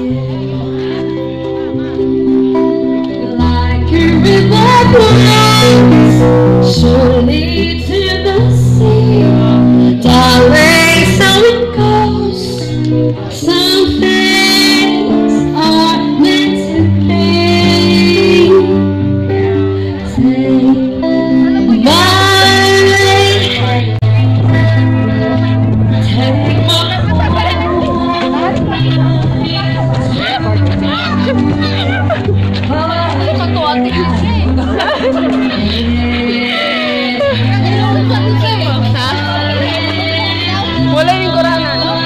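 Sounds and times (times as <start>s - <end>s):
song with singing voice and bass: 0.0s - 42.0s.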